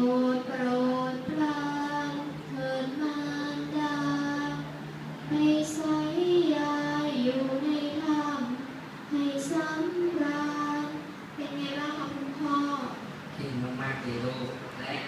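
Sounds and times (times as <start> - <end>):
girl chanting verse melodically: 0.0 - 13.3.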